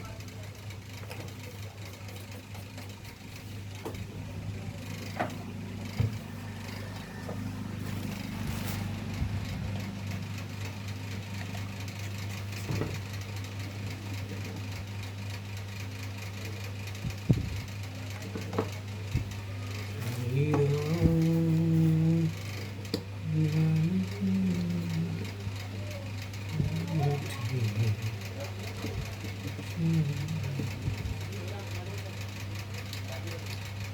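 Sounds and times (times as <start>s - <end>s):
table fan motor humming: 0.0s - 33.9s.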